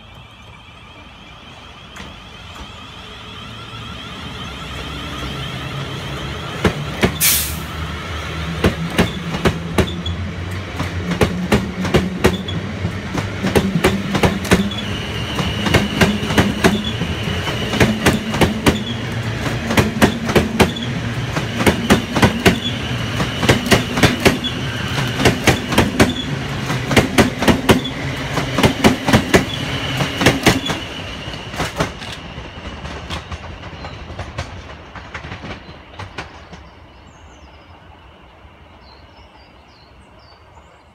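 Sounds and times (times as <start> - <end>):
train wheels clicking over rail joints: 0.0 - 37.4
train hum and high whine: 0.0 - 40.9.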